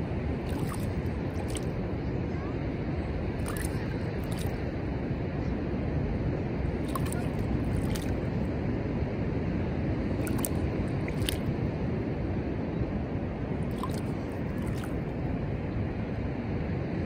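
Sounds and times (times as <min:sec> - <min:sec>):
ocean surf: 0:00.0 - 0:16.8
wind buffeting microphone: 0:00.0 - 0:17.0.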